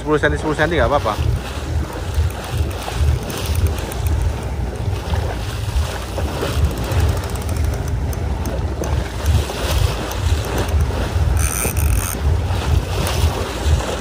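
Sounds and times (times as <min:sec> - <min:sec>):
boat noise: 0:00.0 - 0:14.0
wind buffeting the microphone: 0:00.0 - 0:14.0.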